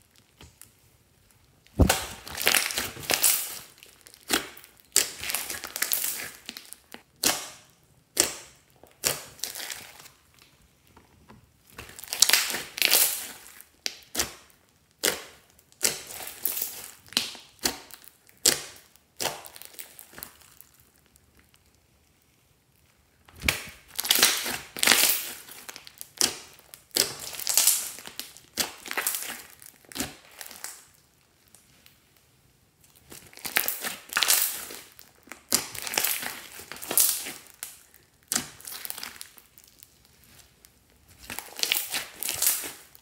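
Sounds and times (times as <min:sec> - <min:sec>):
crackly slime squishing: 0:00.0 - 0:43.0.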